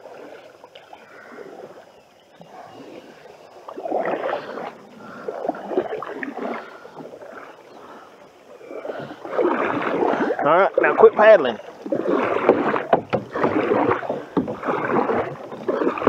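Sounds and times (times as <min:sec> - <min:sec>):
canoe paddles splashing water: 0:00.0 - 0:16.0.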